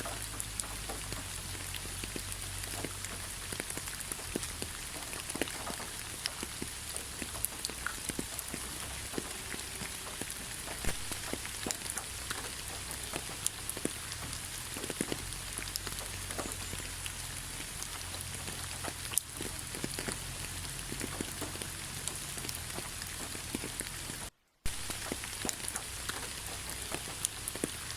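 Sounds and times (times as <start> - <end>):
rain hissing in forest: 0.0 - 27.9
raindrop ticks: 0.0 - 27.9.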